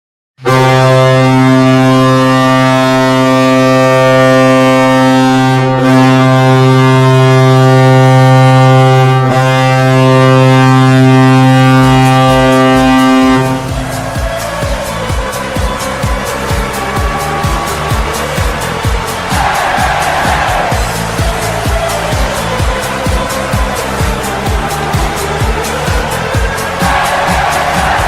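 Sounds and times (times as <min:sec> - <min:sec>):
low goal horn blast: 0:00.4 - 0:28.0.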